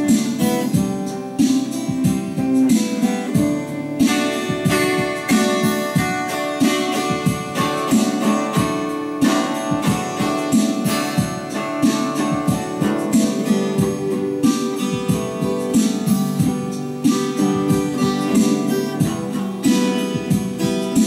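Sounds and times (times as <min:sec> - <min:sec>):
twelve-string acoustic guitar: 0:00.0 - 0:21.0.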